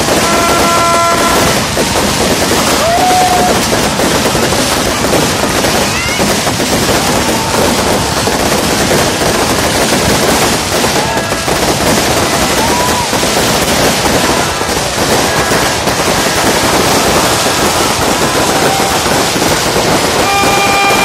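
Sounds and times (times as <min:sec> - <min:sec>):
fireworks crackling and banging: 0:00.0 - 0:21.0
whistling fireworks: 0:00.0 - 0:21.0.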